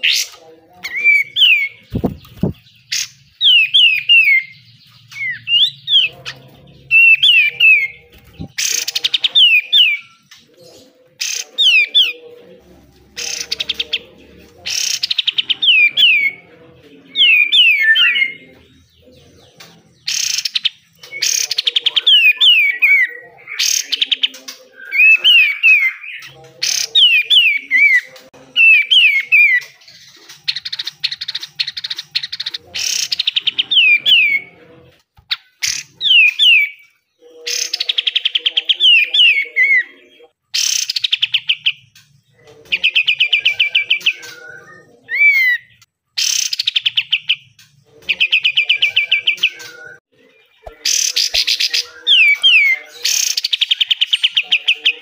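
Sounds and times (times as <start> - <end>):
bulbul rattling and whistling song: 0.0 - 10.5, 19.6 - 34.5, 35.3 - 39.8, 40.5 - 55.0.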